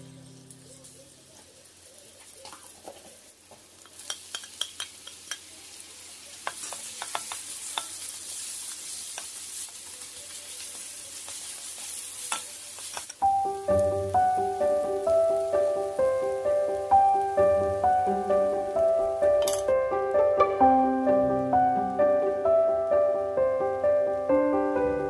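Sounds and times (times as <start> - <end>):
garlic sizzling in oil: 0.0 - 22.2.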